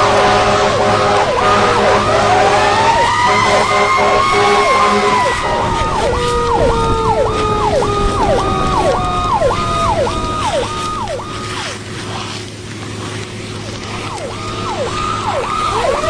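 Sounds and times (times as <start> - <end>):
siren sweeping up and down: 0.0 - 12.4, 13.6 - 16.0
siren slow wail: 0.0 - 16.0.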